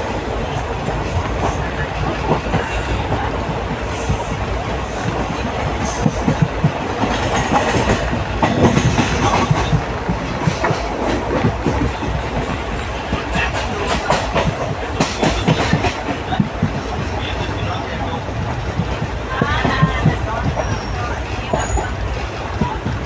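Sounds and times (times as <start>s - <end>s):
train rumbling on rails: 0.0s - 23.0s
wheels clattering over rail joints: 0.0s - 23.0s.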